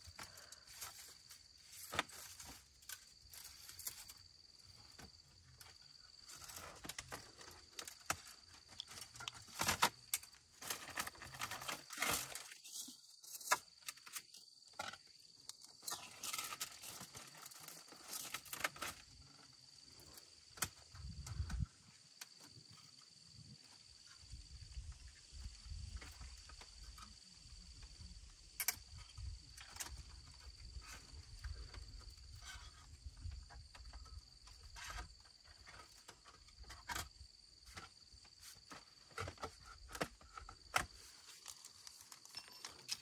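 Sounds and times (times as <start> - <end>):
high insect trill: 0.0 - 43.0.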